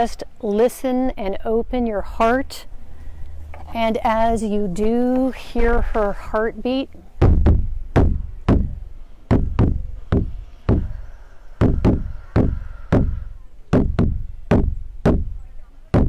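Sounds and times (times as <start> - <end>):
drum beating with deep boom: 1.7 - 16.0.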